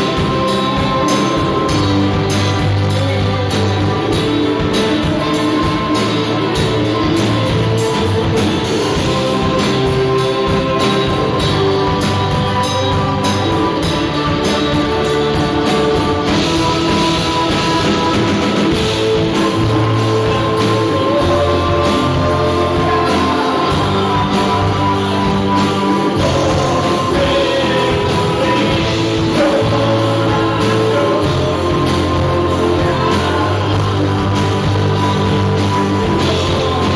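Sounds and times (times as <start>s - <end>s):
rock band playing: 0.0s - 36.9s.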